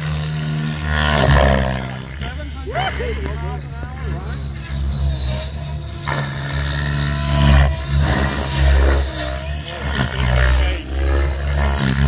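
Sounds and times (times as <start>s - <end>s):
rc helicopter rotor: 0.0s - 12.0s.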